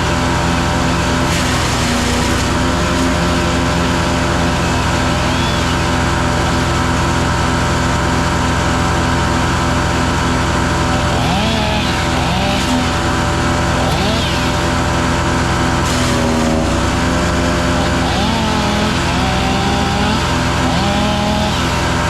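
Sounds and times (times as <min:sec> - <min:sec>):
wood chipper engine running: 0:00.0 - 0:22.0.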